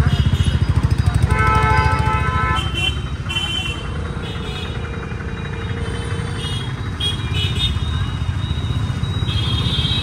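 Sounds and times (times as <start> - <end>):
low traffic rumble: 0.0 - 10.0
motorcycle and car engines: 0.0 - 10.0.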